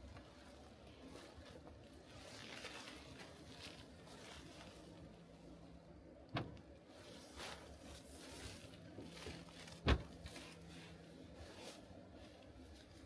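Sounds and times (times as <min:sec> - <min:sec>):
faint rustling handling noise: 0:00.0 - 0:13.0.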